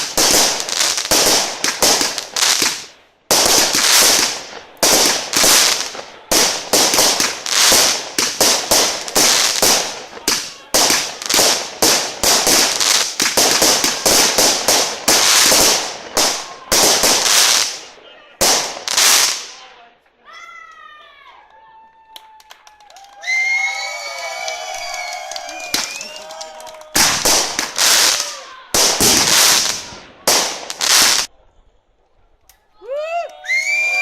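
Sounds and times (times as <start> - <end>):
fireworks bangs: 0.0 - 19.7, 23.4 - 31.3.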